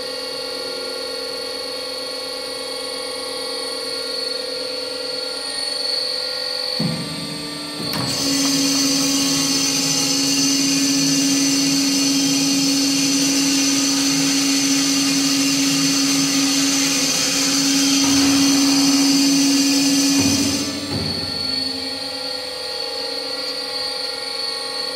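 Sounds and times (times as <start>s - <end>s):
band saw whine and hum: 0.0s - 24.9s.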